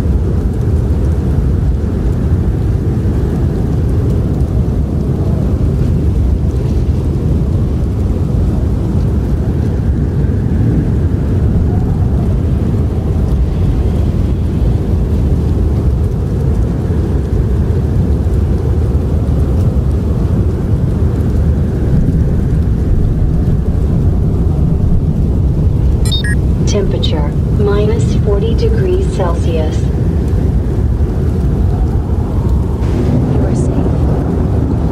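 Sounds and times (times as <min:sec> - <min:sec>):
howling blizzard wind: 0:00.0 - 0:34.9.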